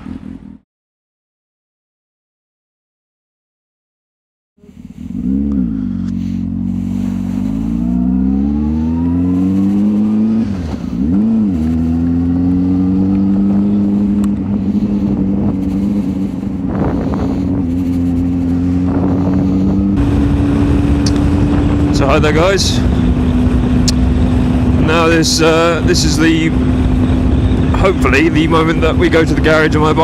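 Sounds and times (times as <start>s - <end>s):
car engine revving: 4.6s - 30.0s.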